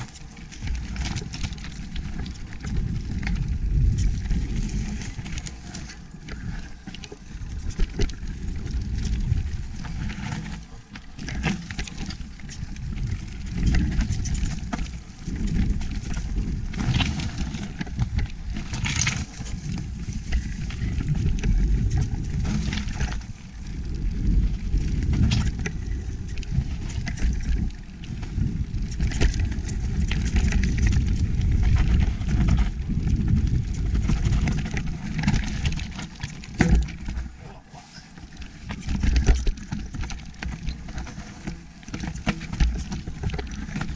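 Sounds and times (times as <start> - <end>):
bike tyres knocking and rattling: 0.0 - 37.4, 38.1 - 43.9
wind rumbling on microphone: 0.0 - 43.9.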